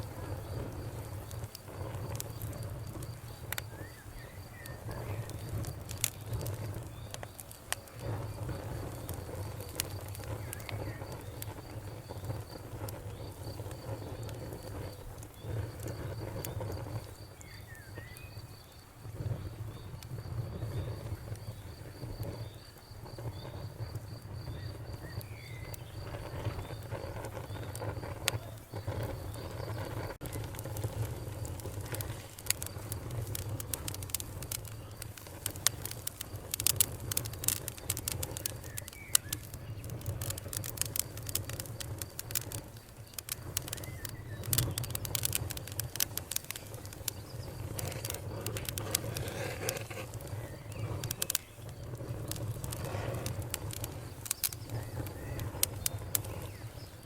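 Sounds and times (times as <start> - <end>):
sharp pops of fire: 0.0 - 57.0
wood fire crackling: 0.0 - 57.0.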